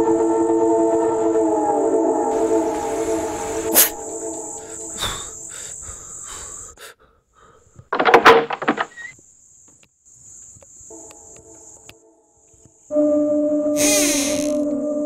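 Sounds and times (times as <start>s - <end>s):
crickets chirring: 2.3s - 14.9s.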